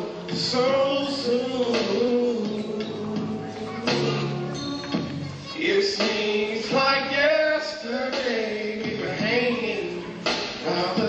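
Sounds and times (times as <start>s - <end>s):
man singing into a microphone: 0.0s - 4.6s, 5.4s - 11.0s
music: 0.0s - 11.0s.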